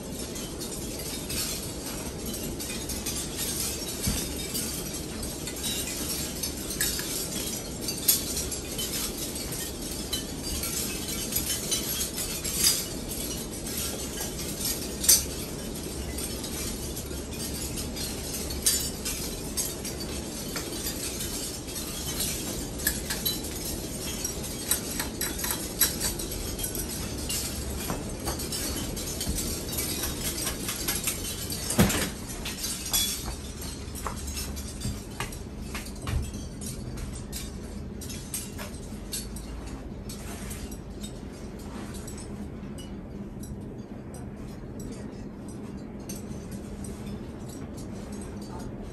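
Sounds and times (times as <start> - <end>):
ceiling fan running: 0.0 - 48.9
glassy clinks of light fixture: 0.3 - 40.3.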